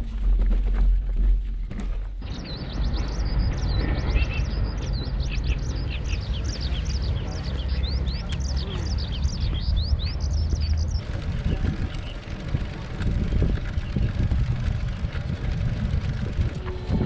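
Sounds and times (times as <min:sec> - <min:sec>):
low steady rumble: 0:00.0 - 0:17.0
small birds chirping: 0:02.2 - 0:17.0.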